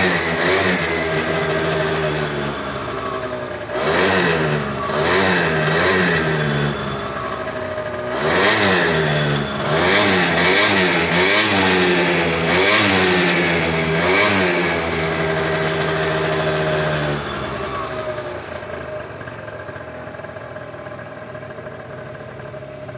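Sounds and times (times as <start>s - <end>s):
two-stroke engine revving: 0.0s - 22.2s.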